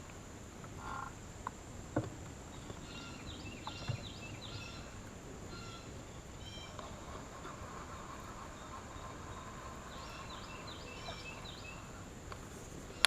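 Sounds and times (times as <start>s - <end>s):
insect drone: 0.0s - 13.0s
birds chirping: 2.4s - 13.0s.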